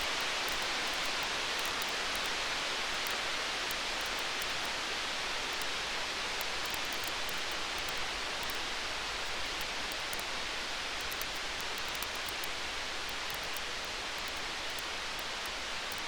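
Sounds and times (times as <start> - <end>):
faint campfire crackles: 0.0 - 16.0.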